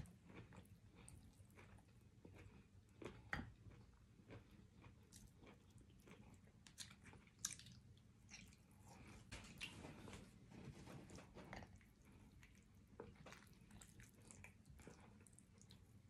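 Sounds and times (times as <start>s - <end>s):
wet chewing and smacking: 0.0s - 16.0s.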